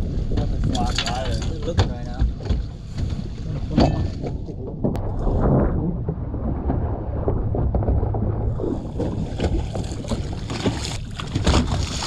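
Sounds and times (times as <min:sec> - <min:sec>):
boat motor hum: 0:00.0 - 0:12.0
water rushing along hull: 0:00.0 - 0:12.0
wind buffeting microphone: 0:00.0 - 0:12.0.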